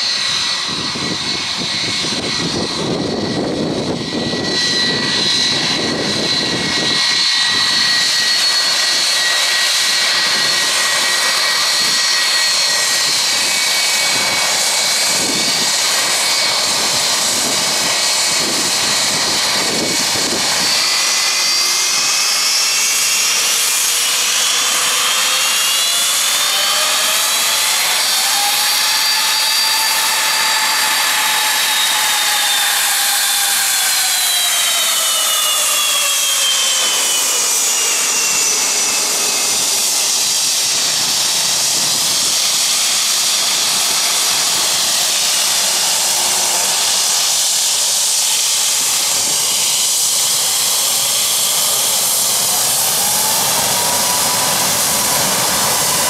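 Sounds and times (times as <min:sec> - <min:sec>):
jet engine whine: 0:00.0 - 0:56.0.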